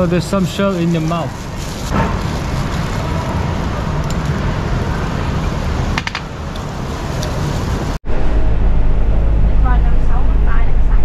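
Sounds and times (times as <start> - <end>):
low rumble: 1.3 - 11.0.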